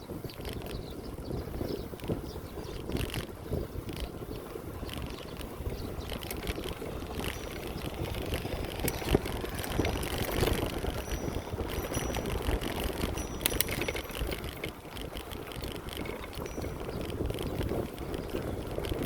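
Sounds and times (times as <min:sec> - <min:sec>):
bicycle tyres rolling on path: 0:00.0 - 0:19.0
bike clicks and rattles: 0:00.0 - 0:19.0
wind on microphone: 0:00.0 - 0:19.0.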